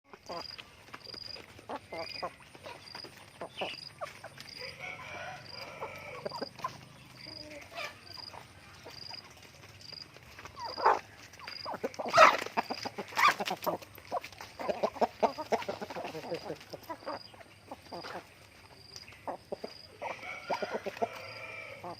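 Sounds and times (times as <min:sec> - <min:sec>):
chickens clucking: 0:00.1 - 0:21.9.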